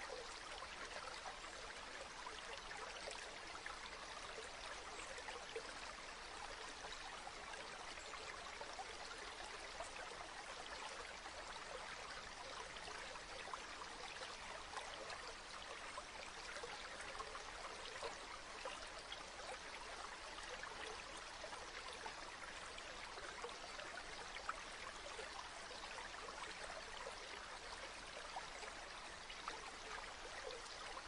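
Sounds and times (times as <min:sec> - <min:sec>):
water trickling: 0:00.0 - 0:31.0.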